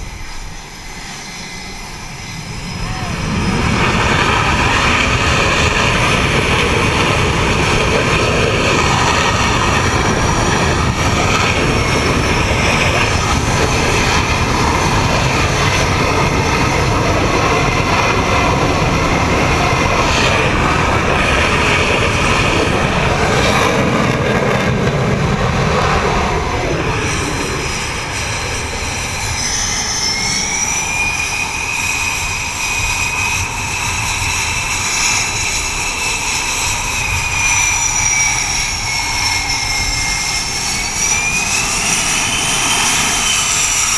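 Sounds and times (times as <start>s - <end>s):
high engine whine: 0.0s - 43.9s
jet engines roaring: 0.0s - 43.9s.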